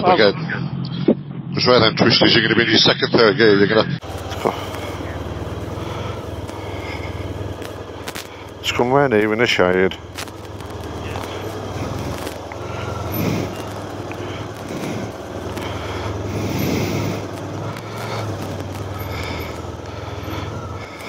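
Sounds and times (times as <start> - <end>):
motorcycle engine running at low revs: 4.0 - 21.0.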